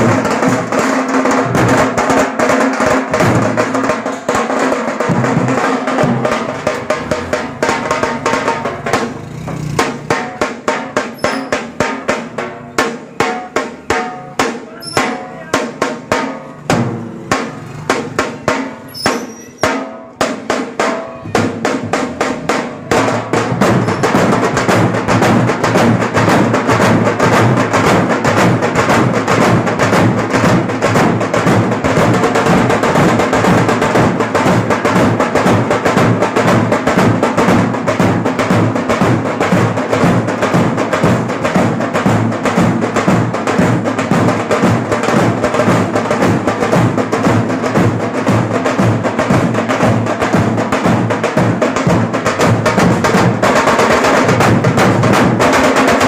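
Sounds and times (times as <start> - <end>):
drum troupe playing: 0.0 - 56.0.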